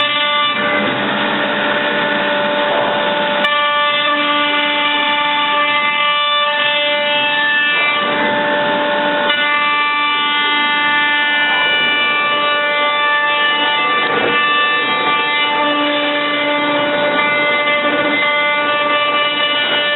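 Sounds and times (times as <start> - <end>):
rough cutting noise: 0.0 - 19.9
router spindle whine: 0.0 - 19.9.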